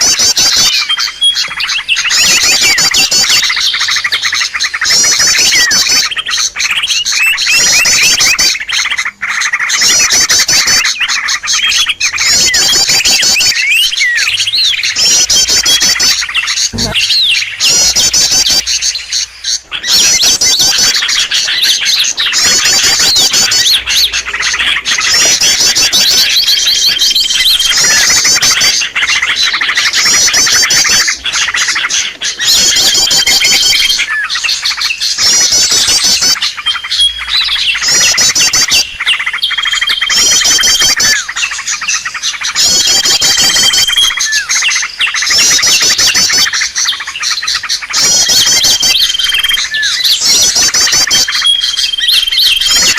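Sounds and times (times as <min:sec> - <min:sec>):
chatter of bird chirps: 0:00.0 - 0:52.9.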